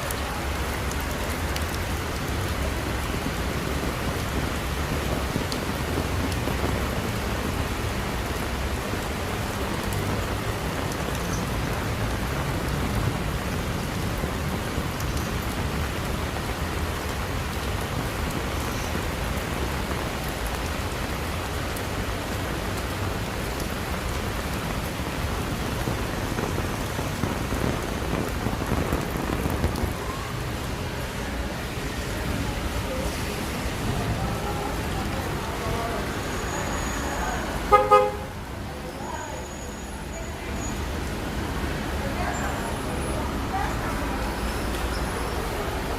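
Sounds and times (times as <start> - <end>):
rain pattering on surfaces: 0.0 - 45.9.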